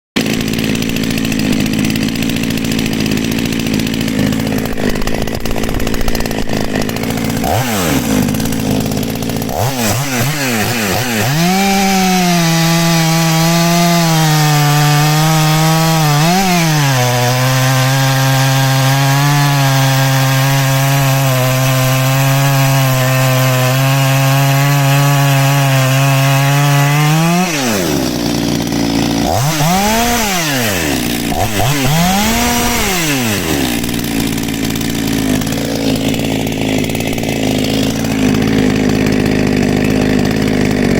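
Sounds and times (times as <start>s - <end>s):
chainsaw running: 0.1s - 40.9s.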